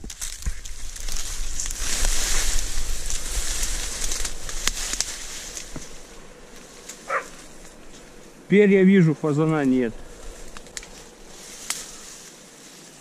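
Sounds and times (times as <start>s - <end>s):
reeds rustling and crackling: 0.0s - 13.0s.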